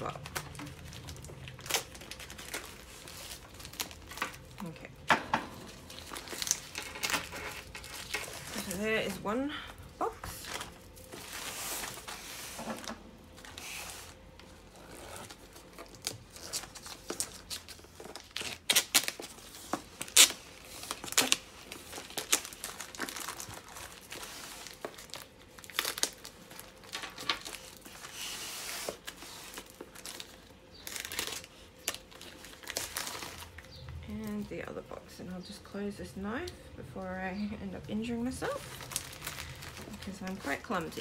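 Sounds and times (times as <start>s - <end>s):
plastic wrapping crinkling and tearing: 0.0s - 34.5s, 37.8s - 41.0s.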